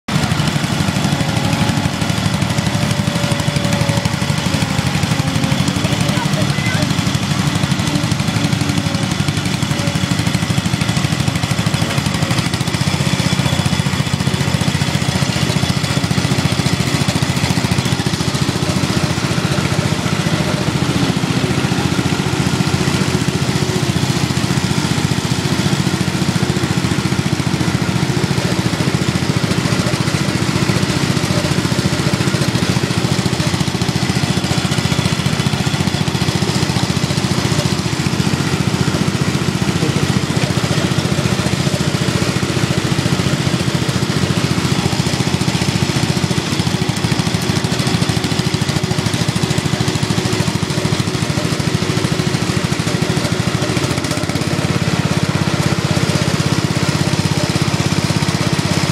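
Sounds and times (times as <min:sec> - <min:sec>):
small tractor engines running: 0:00.0 - 0:58.9.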